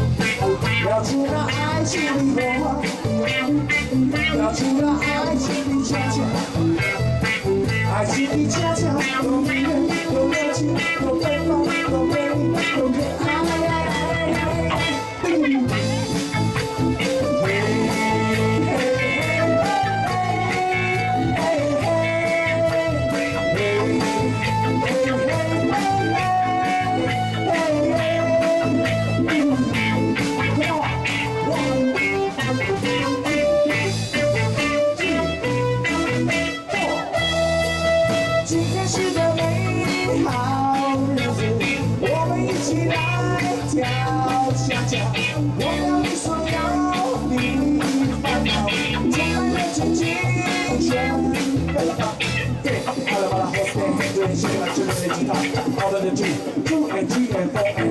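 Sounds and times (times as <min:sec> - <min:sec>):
live band playing cha-cha: 0:00.0 - 0:57.9.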